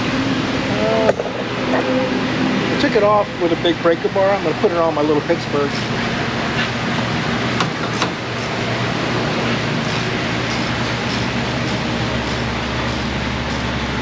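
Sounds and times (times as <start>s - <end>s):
mechanical hum and hiss: 0.0s - 14.0s.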